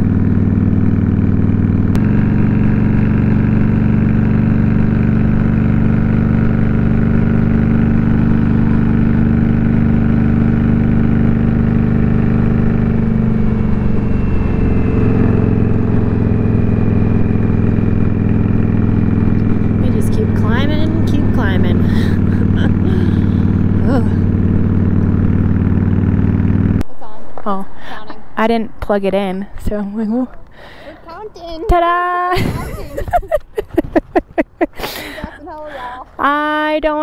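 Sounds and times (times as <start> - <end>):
motorcycle engine cruising: 0.0 - 37.0.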